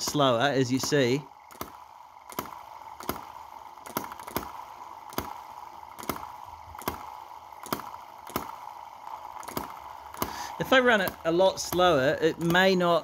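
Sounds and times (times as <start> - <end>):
faint steady hum: 0.0 - 13.0
model engine popping: 0.0 - 13.0.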